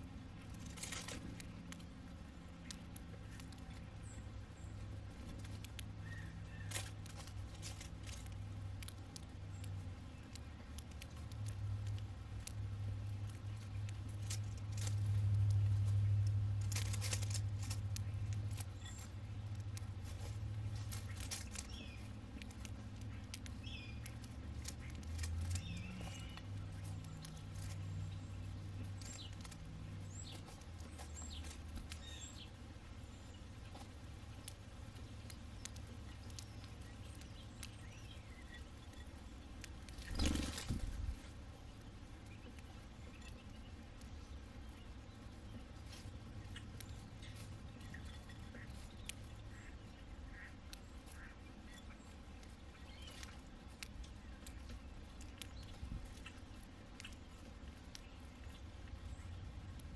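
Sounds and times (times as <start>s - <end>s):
birds pecking at seed: 0.0s - 59.9s
sparrows chirping: 0.0s - 59.9s.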